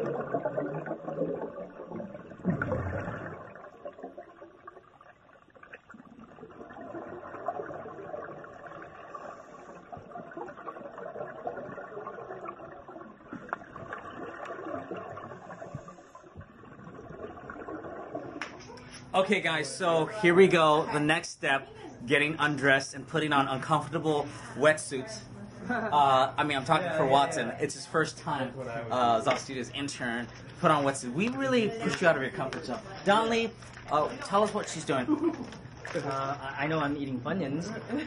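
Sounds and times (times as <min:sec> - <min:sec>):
muffled underwater water churning: 0:00.0 - 0:19.2, 0:26.4 - 0:38.0.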